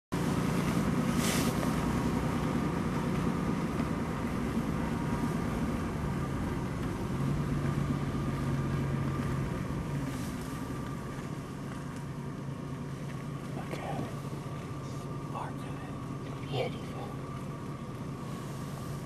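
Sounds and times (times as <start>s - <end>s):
car engine hum and road rumble: 0.1s - 19.0s.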